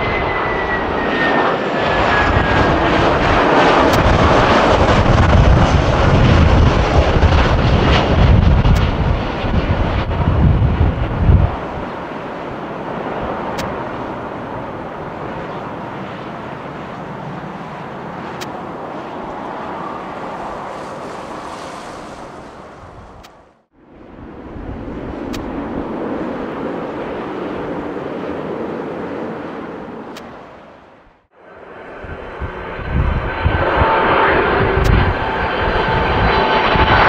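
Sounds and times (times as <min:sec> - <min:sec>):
distant jet engines roaring: 0:00.0 - 0:37.0.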